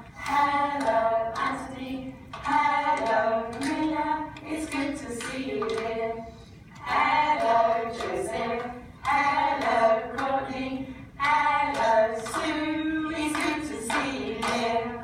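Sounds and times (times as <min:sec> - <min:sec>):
woman singing: 0:00.2 - 0:15.0.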